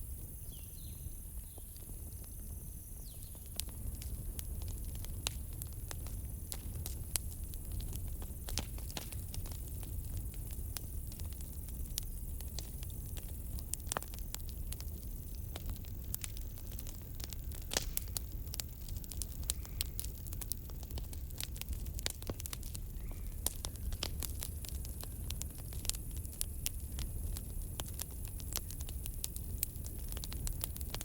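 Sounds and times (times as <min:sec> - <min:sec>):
low rumble of fire: 0:00.0 - 0:31.0
campfire crackling: 0:00.1 - 0:31.0.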